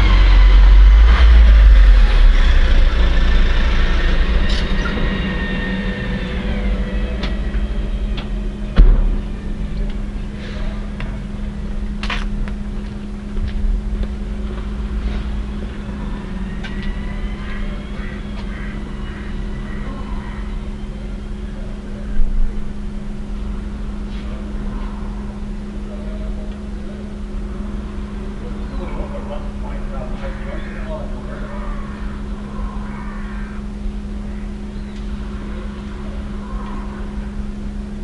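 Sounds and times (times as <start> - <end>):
vehicle engine idling: 0.0 - 38.0.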